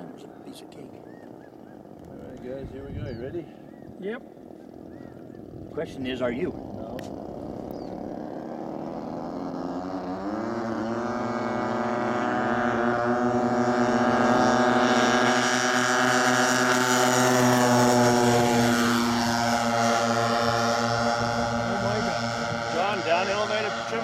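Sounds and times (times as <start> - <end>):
model plane engines droning: 0.0 - 24.0.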